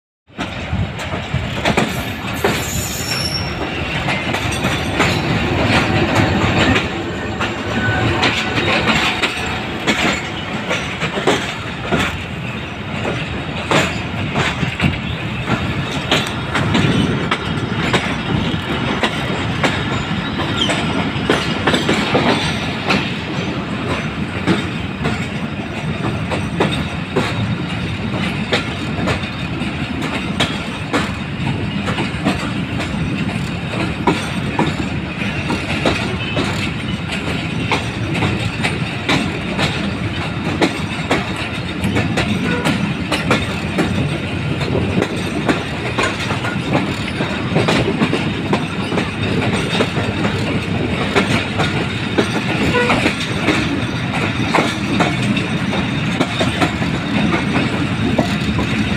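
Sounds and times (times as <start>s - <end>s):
train rolling rumble: 0.3s - 58.9s
train wheels clacking over joints: 0.3s - 58.9s.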